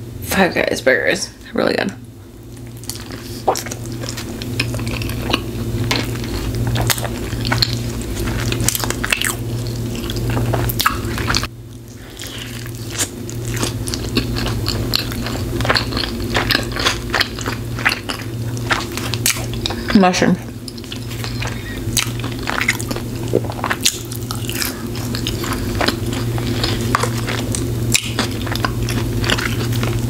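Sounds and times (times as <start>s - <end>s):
low hum: 0.0s - 30.0s
person chewing a burger: 2.4s - 19.9s, 20.6s - 30.0s.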